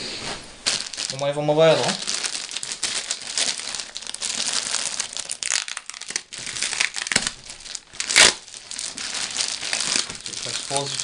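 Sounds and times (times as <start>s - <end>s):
plastic wrapping crinkling: 0.3s - 11.0s.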